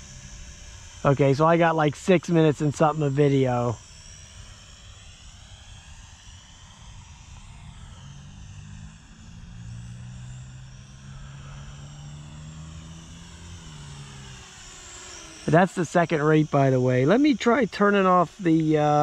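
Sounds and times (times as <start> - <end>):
drone propellers buzzing: 0.0 - 19.0
low hum: 0.0 - 19.0.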